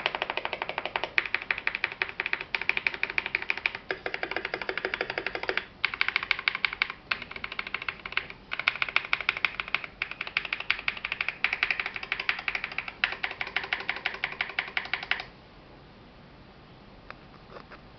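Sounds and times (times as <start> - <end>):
fast typing on mechanical keyboard: 0.0 - 15.3.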